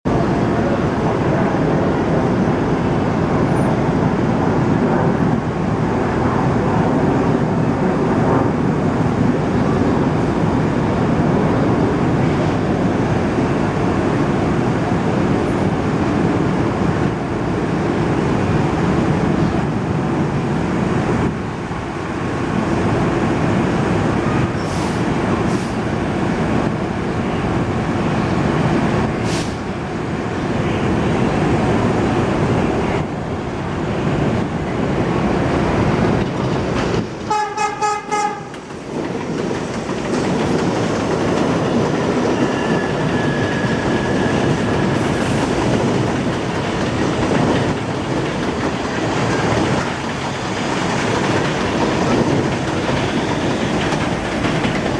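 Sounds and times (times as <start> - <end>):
subway train rumbling: 0.0 - 54.9.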